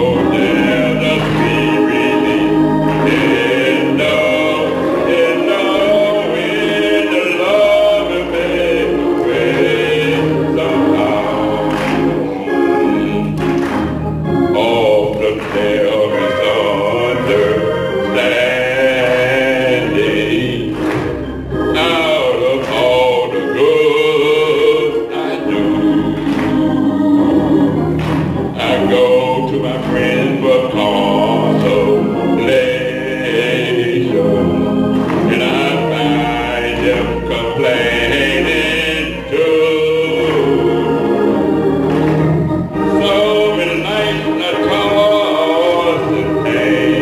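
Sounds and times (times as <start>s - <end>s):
choir singing: 0.0s - 47.0s.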